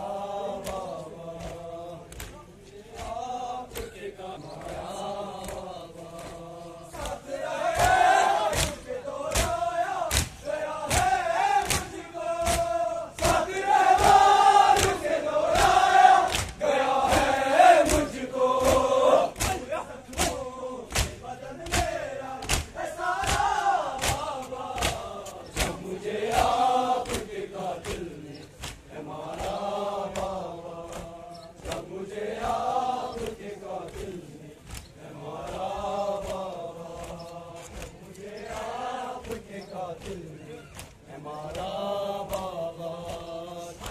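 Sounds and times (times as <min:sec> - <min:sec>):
men chanting in unison: 0:00.0 - 0:43.9
rhythmic chest slapping: 0:00.0 - 0:43.9.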